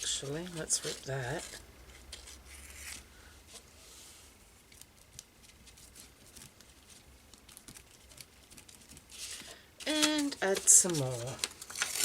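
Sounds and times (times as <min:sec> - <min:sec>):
book page rustling: 0:00.0 - 0:04.0, 0:04.7 - 0:12.0.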